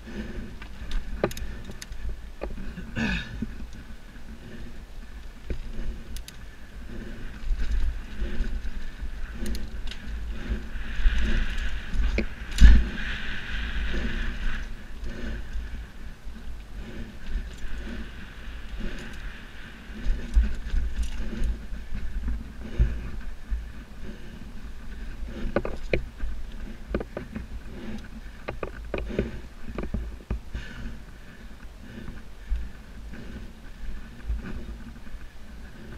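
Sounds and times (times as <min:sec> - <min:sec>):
bike rattles and clicks: 0:00.0 - 0:35.9
bike tyres rolling over dirt: 0:00.0 - 0:35.9
wind rumbling on microphone: 0:00.0 - 0:35.9.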